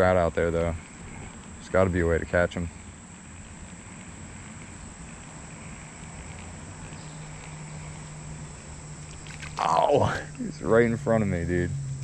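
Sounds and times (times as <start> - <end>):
high-pitched insect drone: 0.0 - 12.0
steady low hum: 0.0 - 12.0.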